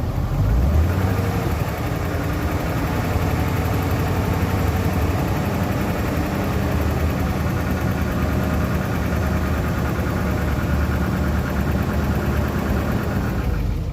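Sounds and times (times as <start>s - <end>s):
car engine idling: 0.0s - 13.9s
engine rattle: 0.0s - 13.9s.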